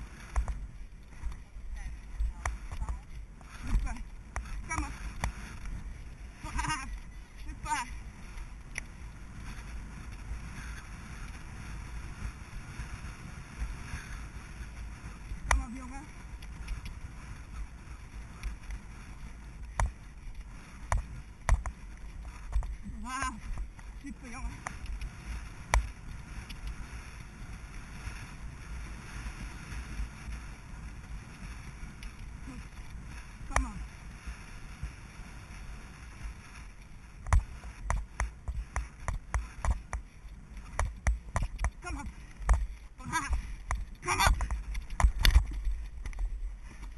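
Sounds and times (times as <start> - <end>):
hooves thumping: 0.0 - 46.9
wind rushing over microphone: 0.0 - 46.9.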